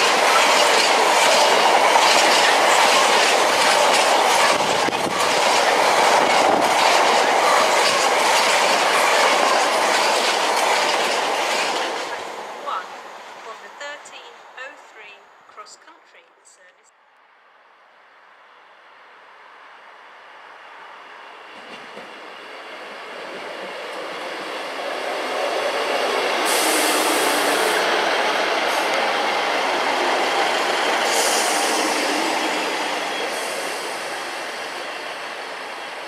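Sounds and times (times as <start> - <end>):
train wheels and engines rumbling: 0.0 - 16.7, 18.5 - 36.0.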